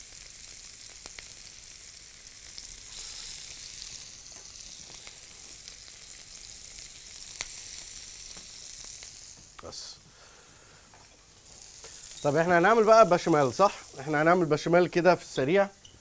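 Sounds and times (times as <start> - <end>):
oil sizzling in a frying pan: 0.0 - 16.0.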